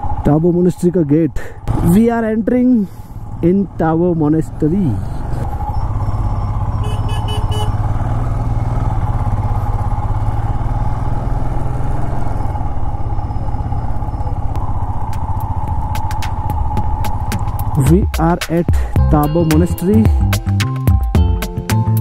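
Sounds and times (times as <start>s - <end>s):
motorcycle engine running: 1.6s - 22.0s.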